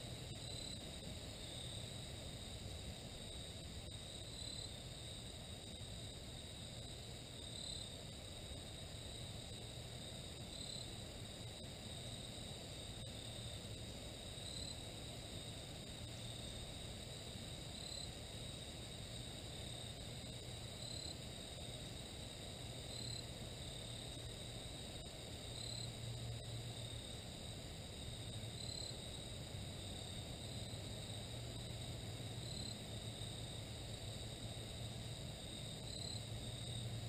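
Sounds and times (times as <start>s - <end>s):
crickets and insects trilling: 0.0s - 37.0s.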